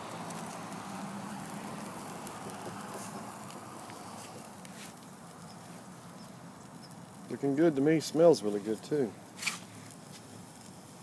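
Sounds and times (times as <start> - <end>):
fat crackling and popping on coals: 0.0 - 11.0
patty sizzling on a grill: 0.0 - 11.0.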